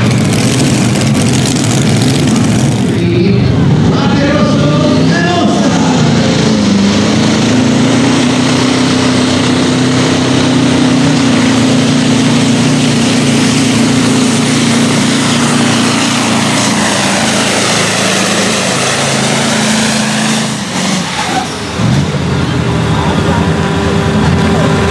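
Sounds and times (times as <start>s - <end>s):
diesel truck engine at high revs: 0.0s - 24.9s.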